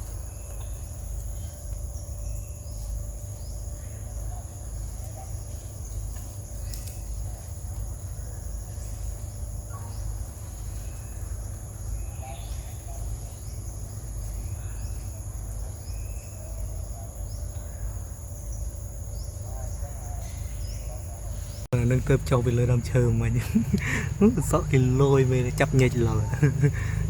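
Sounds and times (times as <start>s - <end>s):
bird chirps: 0.0s - 27.0s
insects droning: 0.0s - 27.0s.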